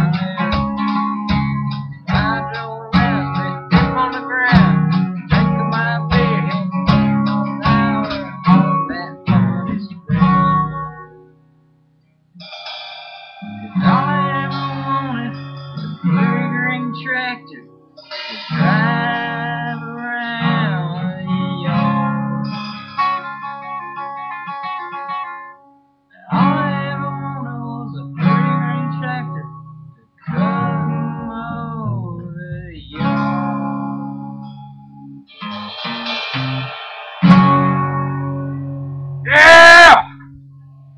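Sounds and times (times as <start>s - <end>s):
acoustic guitar strummed chords: 0.0s - 11.4s, 12.4s - 40.9s.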